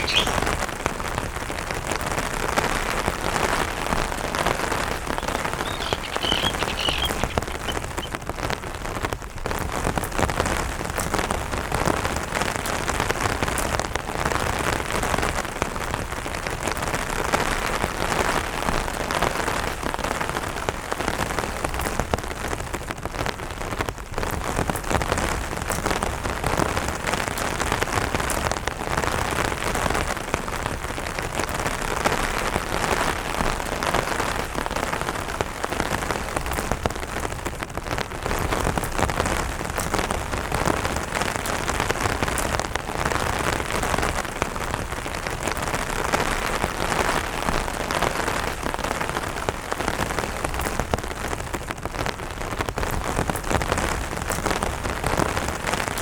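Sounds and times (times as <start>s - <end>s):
rain on an umbrella: 0.0s - 56.0s.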